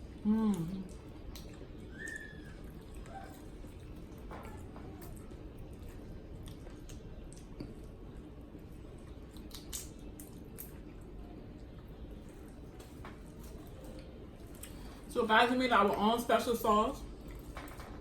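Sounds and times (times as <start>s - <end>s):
wet chewing and squishing: 0.0s - 15.1s.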